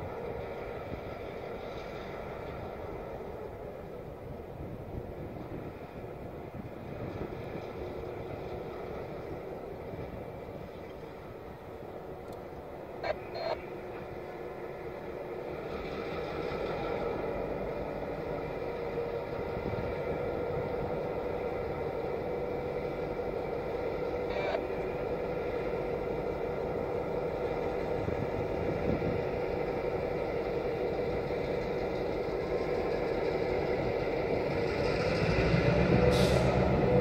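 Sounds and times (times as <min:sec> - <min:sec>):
diesel locomotives droning: 0:00.0 - 0:37.0.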